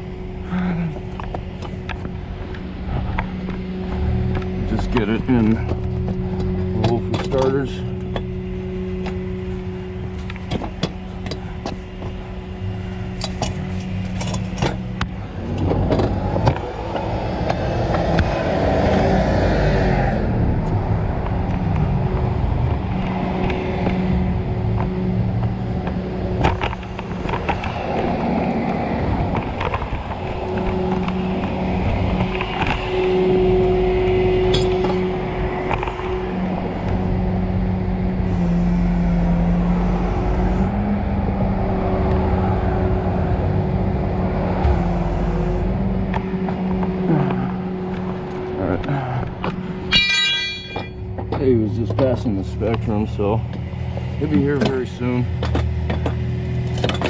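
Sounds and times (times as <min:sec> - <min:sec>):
truck engine humming: 0:00.0 - 0:57.0.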